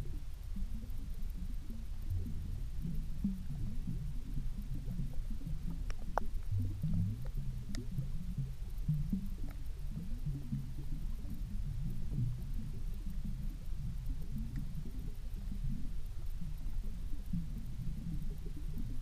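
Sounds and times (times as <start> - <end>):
underwater rumbling and burbling: 0.0 - 19.0.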